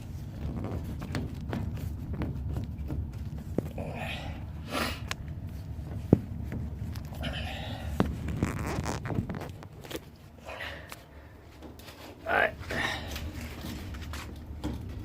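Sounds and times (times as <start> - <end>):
rubber hose rustling and scraping: 0.0 - 15.0.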